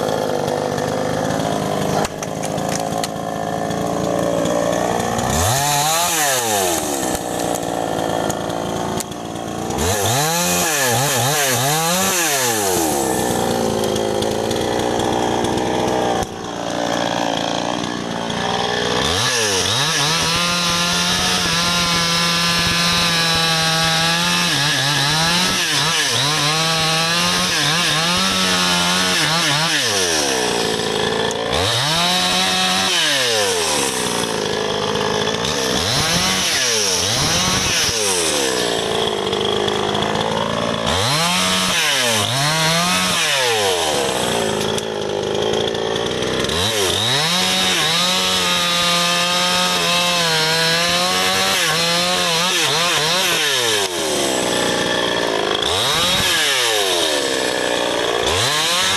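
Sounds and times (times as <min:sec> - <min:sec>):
chainsaw cutting log: 0:00.0 - 0:58.9.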